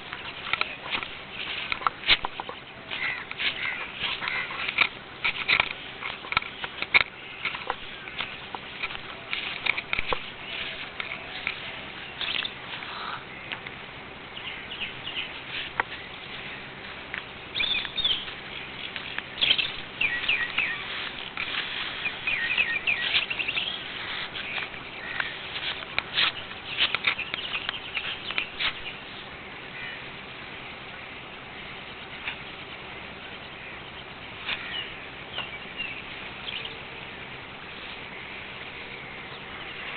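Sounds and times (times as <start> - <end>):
small birds chirping: 0.0 - 39.9
steady low background noise: 0.0 - 39.9.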